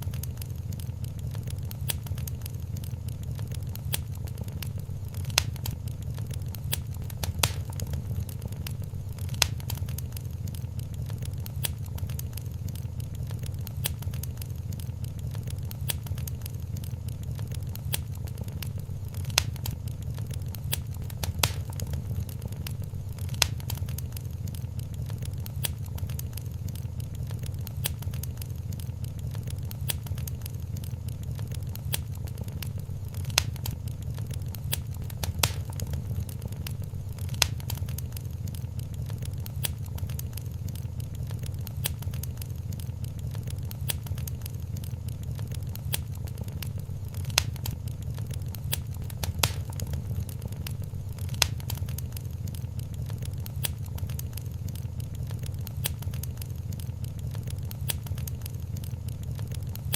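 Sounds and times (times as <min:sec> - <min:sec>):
sharp pops of fire: 0:00.0 - 0:59.9
steady low rumble: 0:00.0 - 0:59.9
wood fire crackling: 0:00.0 - 0:59.9.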